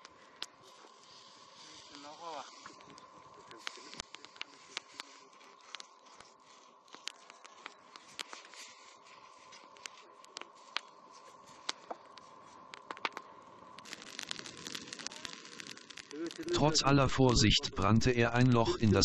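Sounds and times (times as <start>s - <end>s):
faint steady hiss: 0.0s - 19.0s
fur crackling and sizzling: 0.0s - 19.0s.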